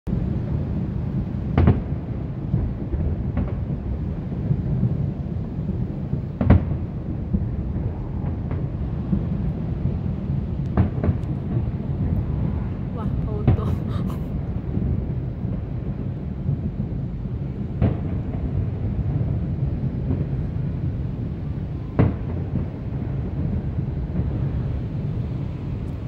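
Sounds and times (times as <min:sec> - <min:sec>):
distant fireworks rumbling: 0:00.1 - 0:26.0
sharp firework bangs: 0:01.3 - 0:24.7.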